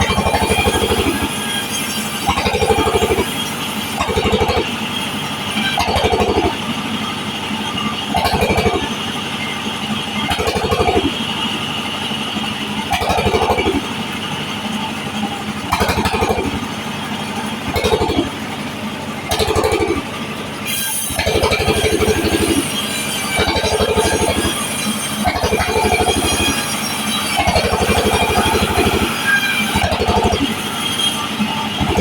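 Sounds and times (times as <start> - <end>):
power saw cutting wood: 0.0 - 32.0.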